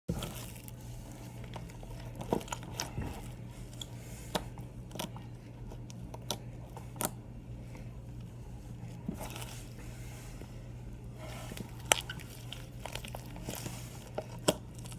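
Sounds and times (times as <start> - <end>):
steady low hum: 0.1 - 14.9.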